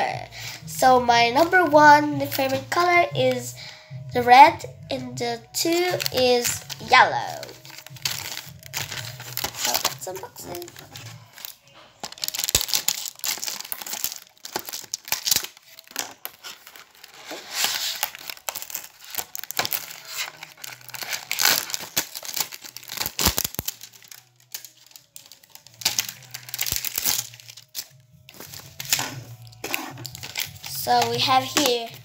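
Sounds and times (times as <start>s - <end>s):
plastic packaging crinkling and tearing: 5.2s - 32.0s.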